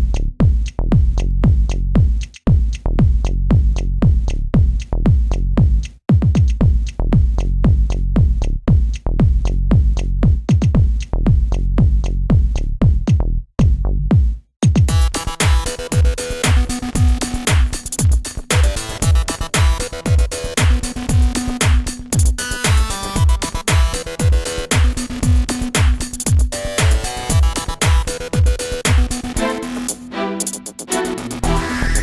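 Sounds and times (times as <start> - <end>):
electronic music with bass beat: 0.0 - 32.0.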